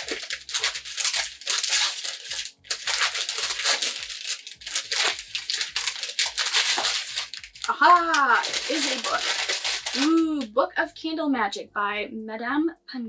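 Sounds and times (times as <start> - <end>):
paper crinkling and rustling: 0.0 - 10.5.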